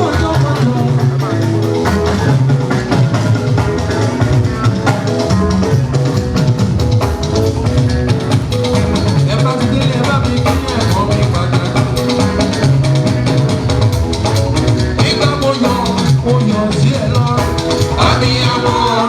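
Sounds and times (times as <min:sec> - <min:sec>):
bass line: 0:00.0 - 0:19.0
drum kit steady beat: 0:00.0 - 0:19.0
guitar: 0:00.0 - 0:19.0.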